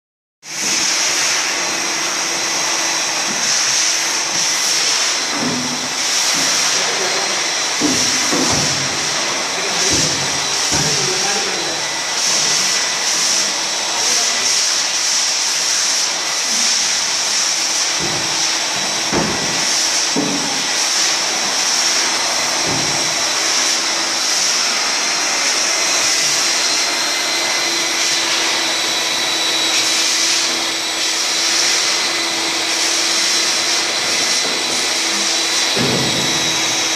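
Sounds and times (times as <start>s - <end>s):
vacuum wand sucking water: 0.4s - 36.9s
wet-and-dry vacuum whining: 0.4s - 36.9s.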